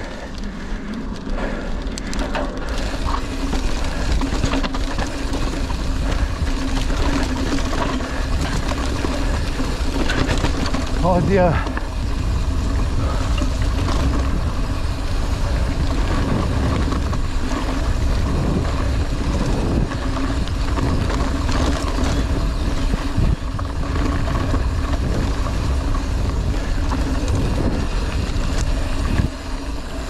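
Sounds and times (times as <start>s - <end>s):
bike rattling and knocking: 0.0s - 30.0s
wind rumble on microphone: 1.4s - 30.0s.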